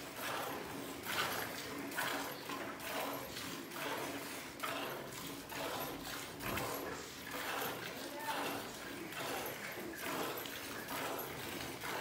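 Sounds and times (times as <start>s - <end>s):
milk squirting into steel bowl: 0.0s - 12.0s.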